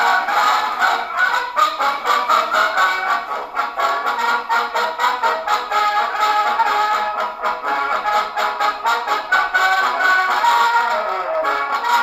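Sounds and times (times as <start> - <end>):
gramophone record playing a tune: 0.0 - 12.0.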